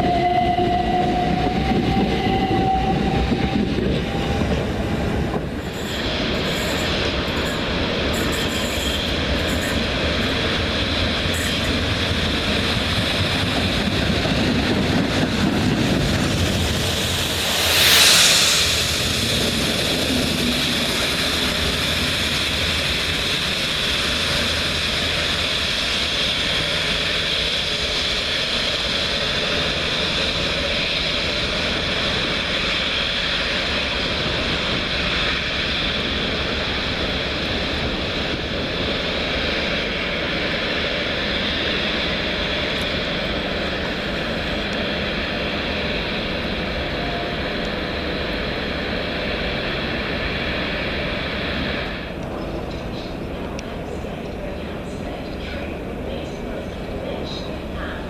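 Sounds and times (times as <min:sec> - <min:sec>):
train rumble and hiss: 0:00.0 - 0:58.0.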